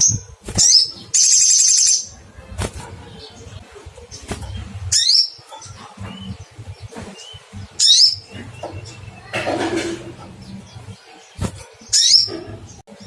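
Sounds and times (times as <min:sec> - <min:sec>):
sharp bird calls: 0:00.0 - 0:13.0
soft bird chirps: 0:00.0 - 0:13.0.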